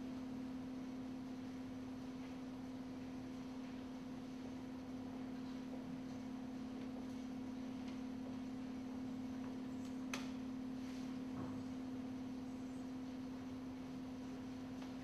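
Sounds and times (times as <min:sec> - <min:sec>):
steady low humming tone: 0:00.0 - 0:15.0.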